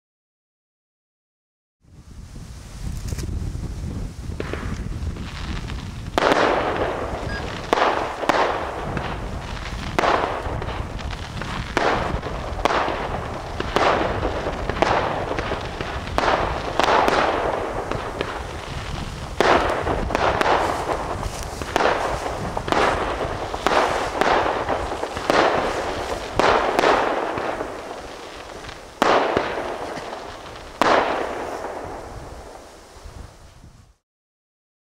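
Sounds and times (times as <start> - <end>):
firework hissing tail: 2.0 - 34.0
firework bangs: 3.2 - 34.0.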